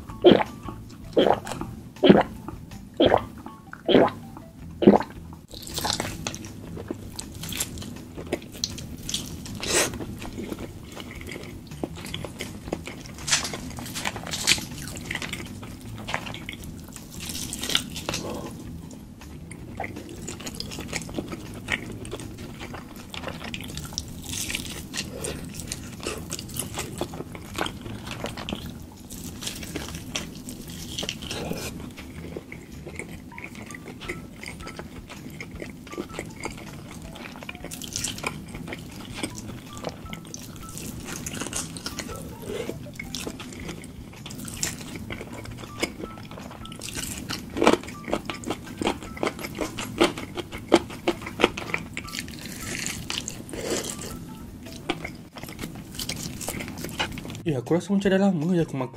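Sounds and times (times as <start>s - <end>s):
chewing and biting: 4.8s - 57.4s.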